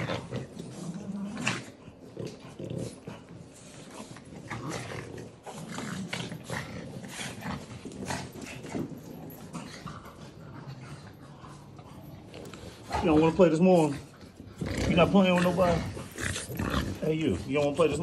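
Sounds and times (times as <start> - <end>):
dogs growling: 0.0 - 18.0
dogs snorting: 0.0 - 18.0.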